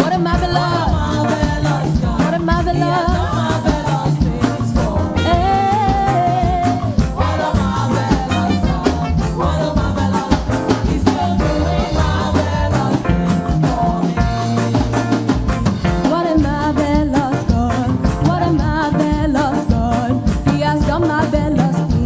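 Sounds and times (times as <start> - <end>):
live gospel band music: 0.0 - 22.0
steady drum beat: 0.0 - 22.0.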